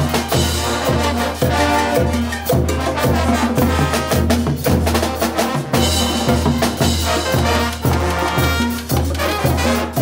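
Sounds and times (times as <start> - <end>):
drums timbales and cymbals: 0.0 - 10.0
street brass band playing: 0.0 - 10.0.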